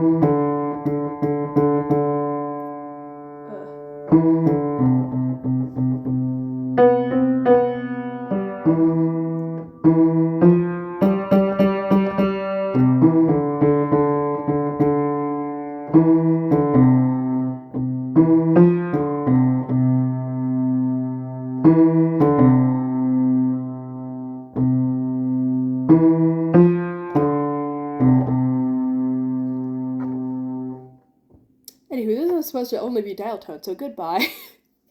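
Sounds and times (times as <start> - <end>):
slow piano: 0.0 - 31.5.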